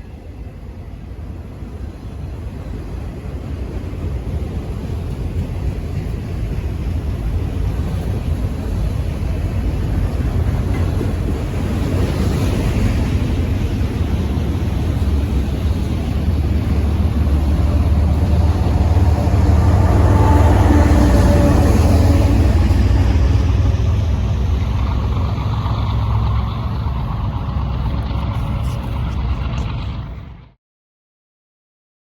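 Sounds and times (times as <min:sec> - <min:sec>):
diesel freight train rumbling past: 0:00.0 - 0:30.6.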